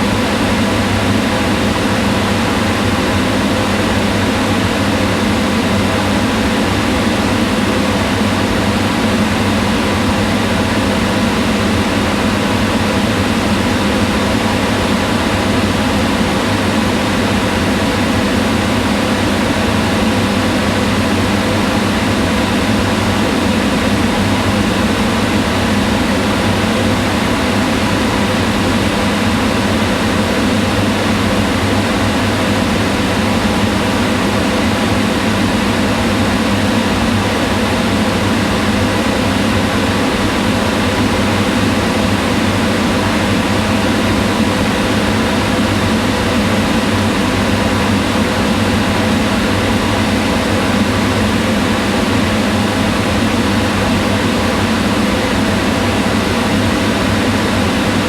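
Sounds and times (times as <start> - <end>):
range hood exhaust fan running: 0.0 - 58.0.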